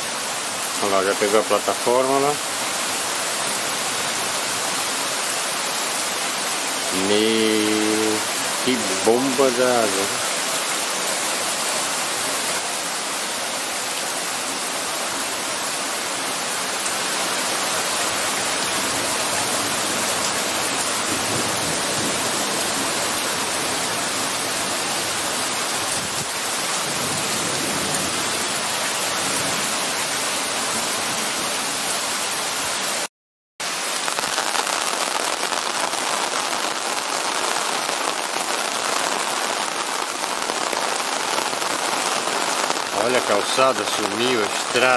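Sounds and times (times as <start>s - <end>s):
torrential rain pouring: 0.0s - 44.9s.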